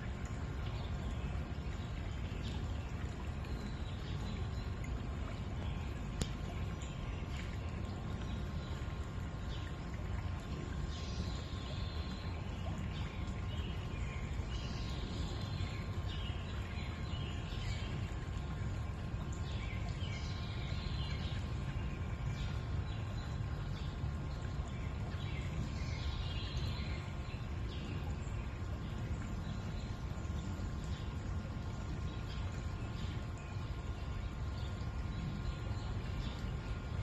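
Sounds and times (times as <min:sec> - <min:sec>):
forest stream flowing: 0:00.0 - 0:37.0.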